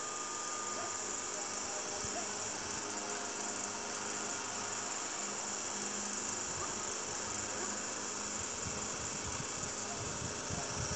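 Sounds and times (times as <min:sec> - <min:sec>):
insects droning: 0:00.0 - 0:10.9.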